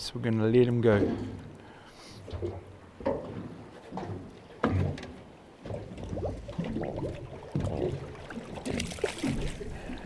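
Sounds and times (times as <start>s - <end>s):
water slapping boat hull: 0.6s - 10.0s.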